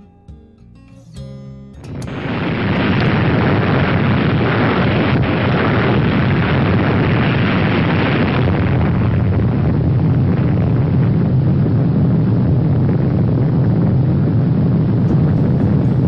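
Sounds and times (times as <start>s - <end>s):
rumbling roar of explosion: 2.1s - 16.0s.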